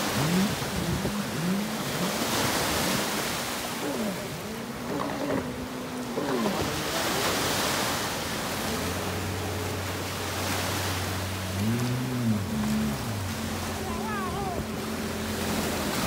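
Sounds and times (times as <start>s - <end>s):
jet ski engine: 0.0s - 16.0s
rush of spray and waves: 0.0s - 16.0s.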